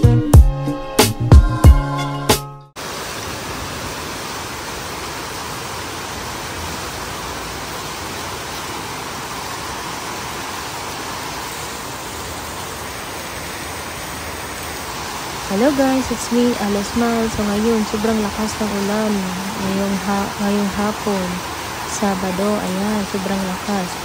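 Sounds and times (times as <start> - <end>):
heavy rain on pavement: 2.8 - 24.0.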